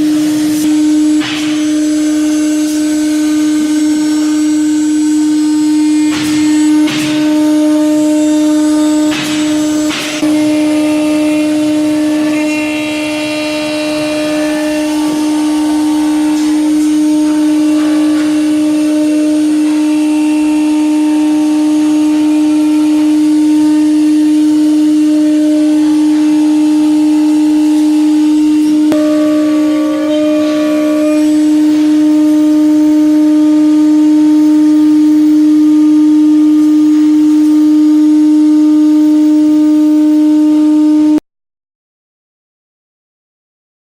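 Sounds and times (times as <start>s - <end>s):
higher machining tones: 0.0s - 41.1s
router spindle whine: 0.0s - 41.2s.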